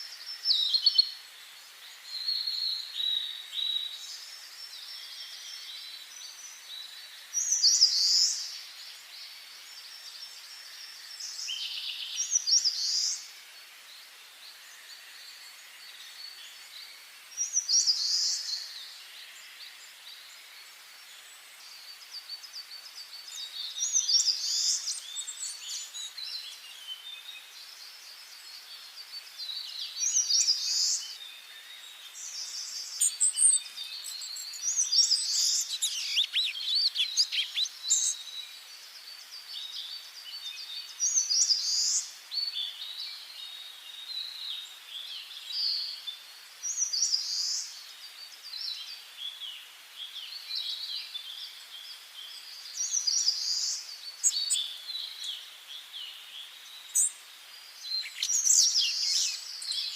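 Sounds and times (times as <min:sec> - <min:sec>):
loud bird song phrase: 0:00.0 - 0:59.9
soft bird chirping: 0:00.0 - 0:59.9.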